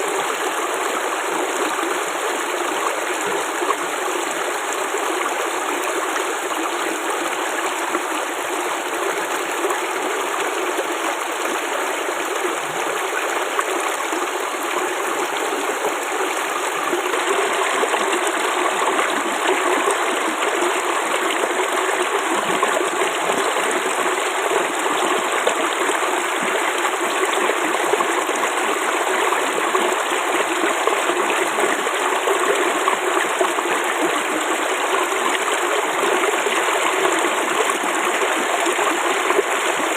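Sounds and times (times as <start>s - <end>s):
water babbling: 0.0s - 39.9s.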